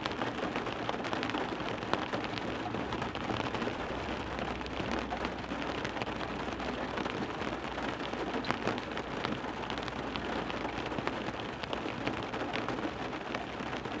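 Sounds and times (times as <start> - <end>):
heavy rain on a car window: 0.0 - 14.0.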